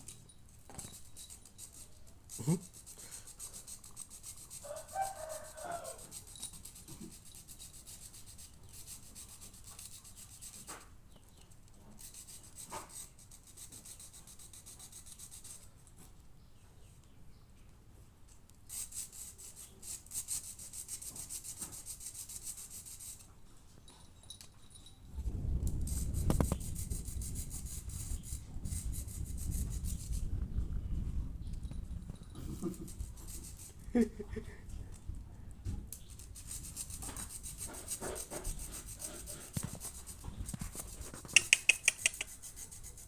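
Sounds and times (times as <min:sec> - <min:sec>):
scratchy rubbing and scraping: 0:00.0 - 0:16.2, 0:18.7 - 0:23.3, 0:25.6 - 0:31.0, 0:31.9 - 0:34.2, 0:35.9 - 0:43.0.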